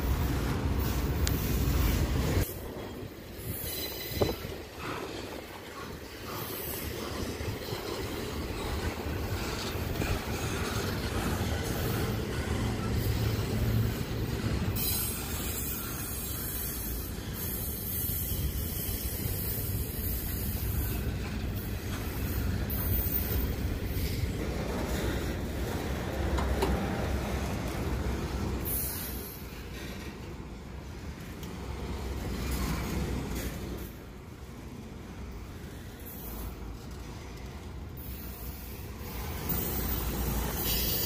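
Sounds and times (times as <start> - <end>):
freight train wheels rumbling on rails: 0.0 - 41.0.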